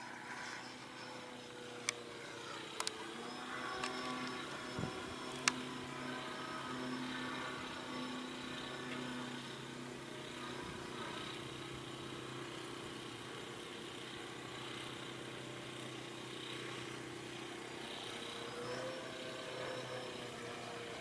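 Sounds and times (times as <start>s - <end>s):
model airplane engine running: 0.0s - 21.0s.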